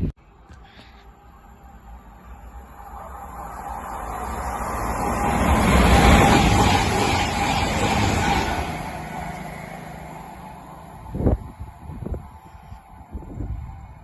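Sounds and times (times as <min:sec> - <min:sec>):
train passing at speed: 0:01.0 - 0:14.0.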